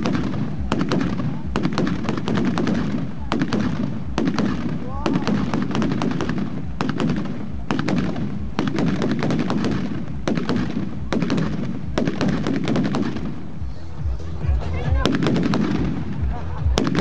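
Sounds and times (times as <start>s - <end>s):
firecrackers banging: 0.0s - 17.0s.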